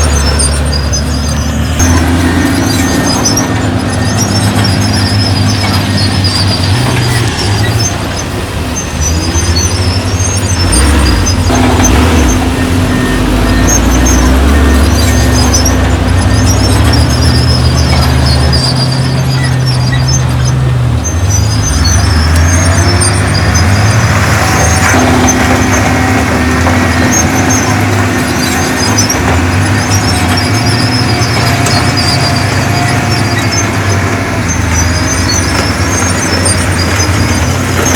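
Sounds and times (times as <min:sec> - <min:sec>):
heavy diesel machinery engine: 0:00.0 - 0:37.9
high-pitched squeaks: 0:00.0 - 0:37.9.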